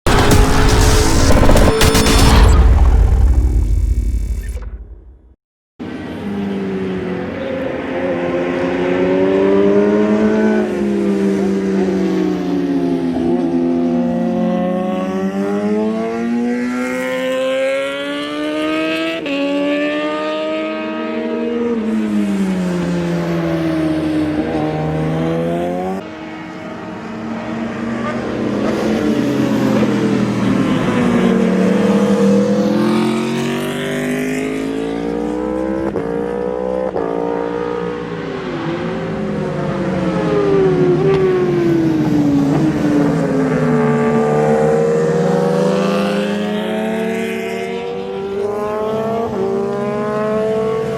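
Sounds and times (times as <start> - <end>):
racing motorcycles passing: 5.9 - 50.9.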